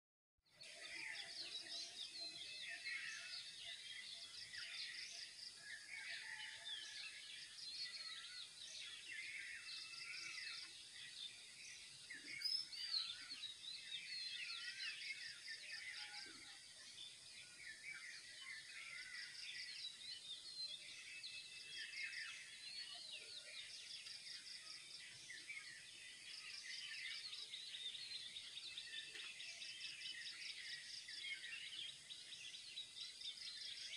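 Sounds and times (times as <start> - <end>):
birds chirping and whistling: 0.9 - 33.9.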